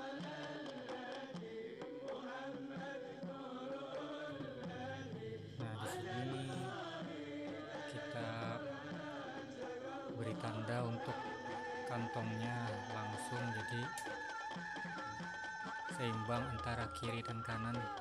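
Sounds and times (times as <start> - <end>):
chanted vocal melody: 0.0 - 18.0.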